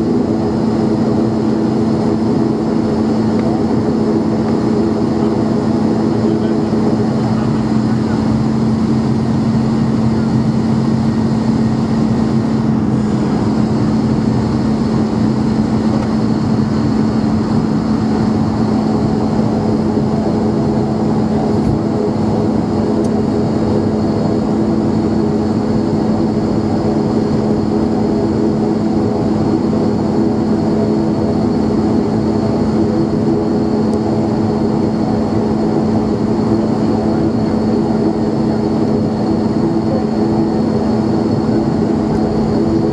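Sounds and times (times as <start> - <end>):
higher steady engine tones: 0.0 - 42.9
turboprop engine drone: 0.0 - 42.9.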